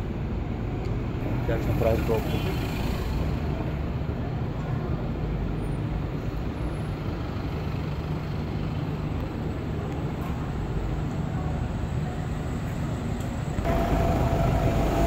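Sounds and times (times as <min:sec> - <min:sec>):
vehicle engine rumbling: 0:00.9 - 0:15.0.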